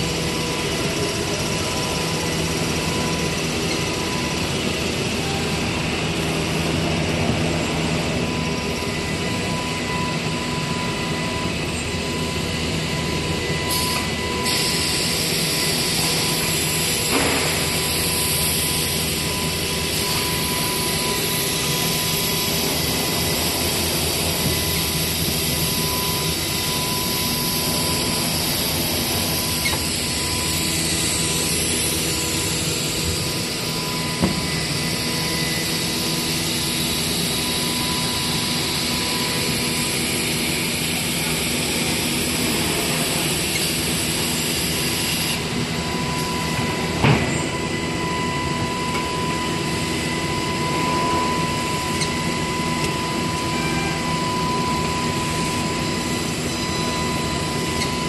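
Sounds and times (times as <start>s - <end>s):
machine drone: 0.0s - 58.0s
machine whining tones: 0.0s - 58.0s.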